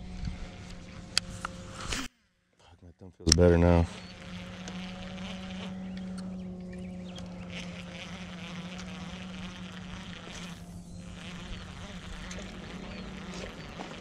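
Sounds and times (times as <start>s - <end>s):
low buzzing hum: 0.0s - 14.0s.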